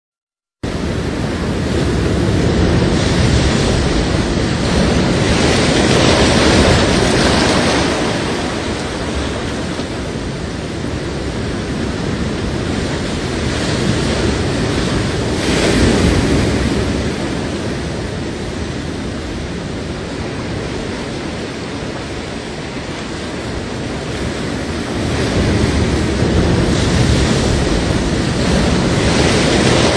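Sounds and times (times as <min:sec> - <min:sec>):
ocean surf washing onto beach: 0:00.6 - 0:29.9.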